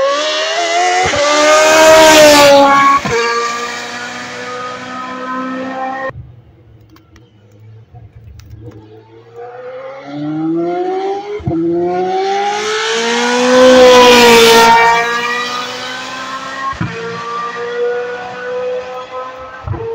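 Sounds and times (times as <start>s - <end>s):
racing car accelerating past: 0.0s - 6.1s, 8.8s - 19.9s.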